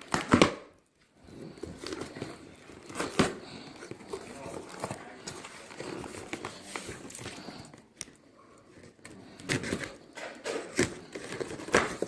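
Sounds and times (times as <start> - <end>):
objects being handled: 0.0 - 12.0.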